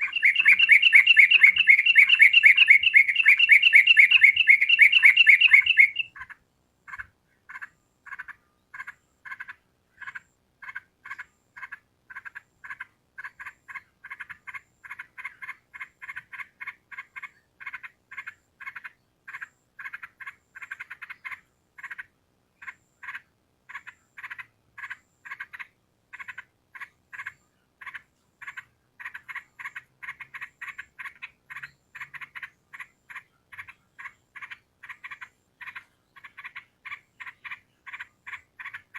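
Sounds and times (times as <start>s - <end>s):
short repeated animal calls: 0.0s - 38.9s.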